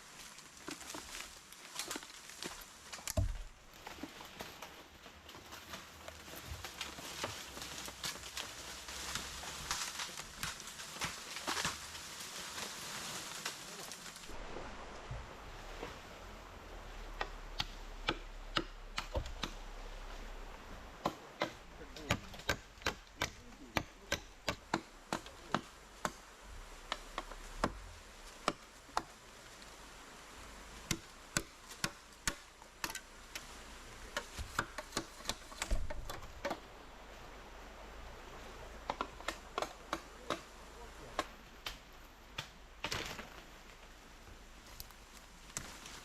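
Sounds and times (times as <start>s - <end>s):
scraping rustle: 0.0s - 30.8s, 32.8s - 41.5s
faint steady hiss: 0.0s - 46.0s.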